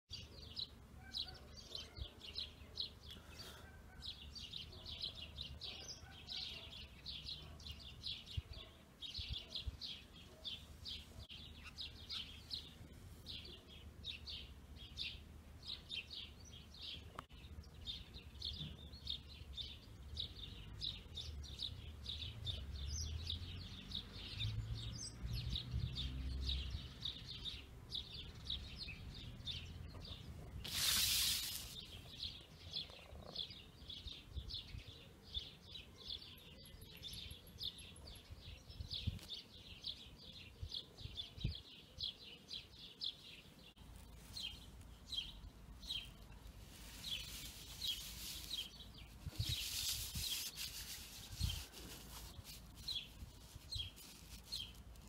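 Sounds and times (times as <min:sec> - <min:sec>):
small birds chirping: 0:00.1 - 0:55.0.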